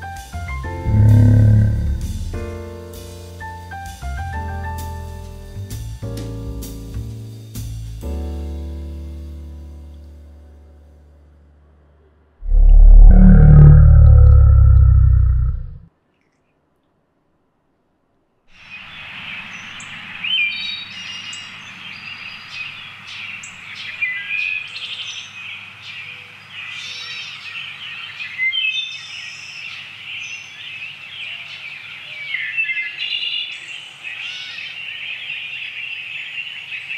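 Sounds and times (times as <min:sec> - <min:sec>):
steady outdoor hiss: 0:00.0 - 0:12.4, 0:15.9 - 0:36.9.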